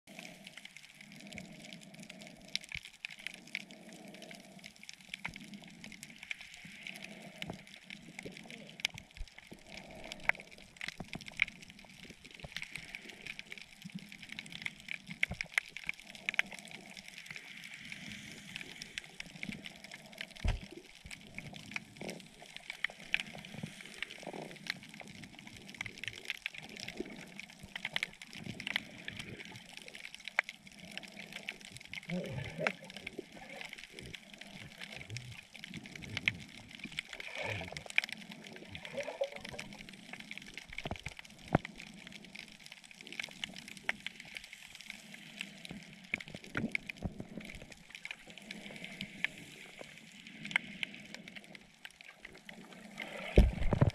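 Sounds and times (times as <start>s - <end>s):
sharp underwater clicks and crackles: 0.1s - 53.9s
steady underwater hiss: 0.1s - 53.9s.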